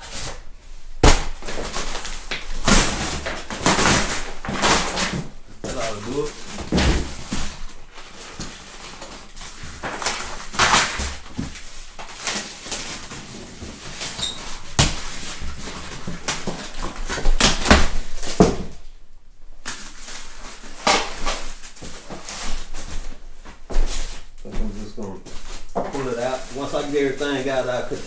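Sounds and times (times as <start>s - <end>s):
polystyrene foam squeaking: 0.0s - 18.5s, 23.9s - 28.0s
cardboard rustling: 0.0s - 18.9s, 19.7s - 28.0s.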